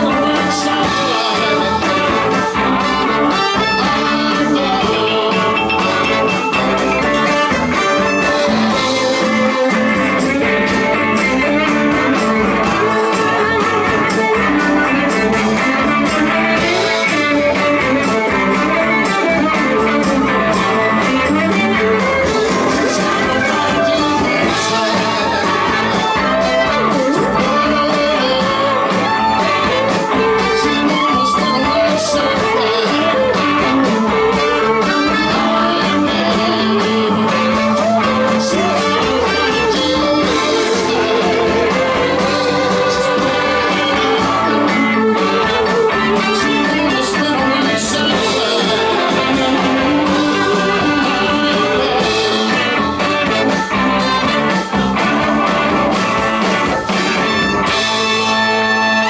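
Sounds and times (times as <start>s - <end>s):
electric guitar: 0.0s - 59.0s
live blues band: 0.0s - 59.0s.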